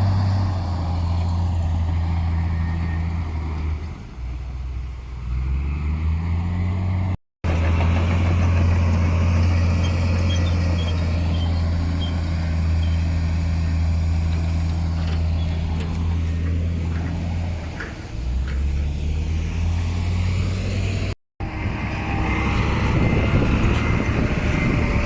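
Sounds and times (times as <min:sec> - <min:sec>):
heavy diesel engine droning: 0:00.0 - 0:25.0.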